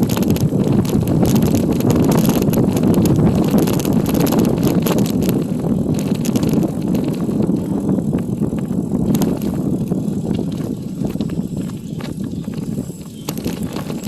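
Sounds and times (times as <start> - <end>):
bicycle tyres rumbling: 0.0 - 14.0
light clicks and rattles: 0.0 - 14.0
wind on microphone: 0.0 - 14.0.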